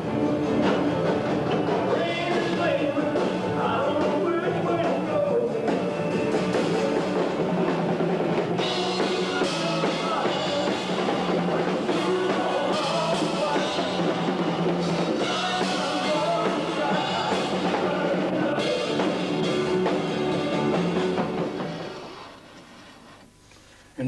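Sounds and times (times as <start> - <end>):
rock music with singing: 0.0 - 22.6.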